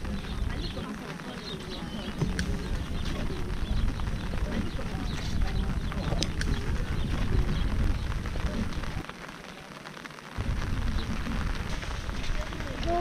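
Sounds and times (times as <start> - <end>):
wind rumble on microphone: 0.0 - 9.0, 10.4 - 13.0
rain falling: 0.0 - 13.0.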